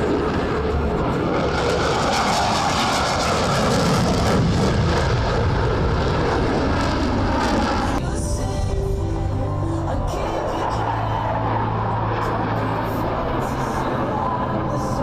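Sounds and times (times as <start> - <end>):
jet aircraft roar flying past: 0.0 - 8.0, 8.7 - 15.0.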